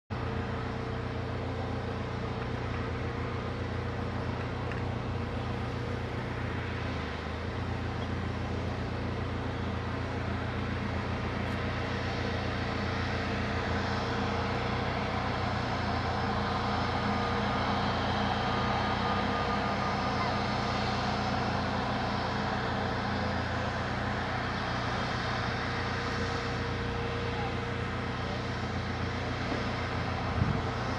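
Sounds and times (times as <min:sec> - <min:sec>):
jet engines humming and whining: 0:00.1 - 0:30.9.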